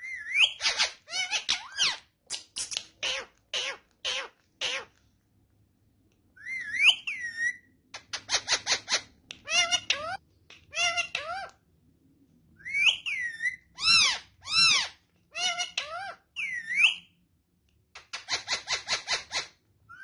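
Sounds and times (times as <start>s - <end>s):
parrot calls: 0.0s - 4.9s, 6.4s - 11.6s, 12.6s - 17.1s, 18.0s - 20.0s.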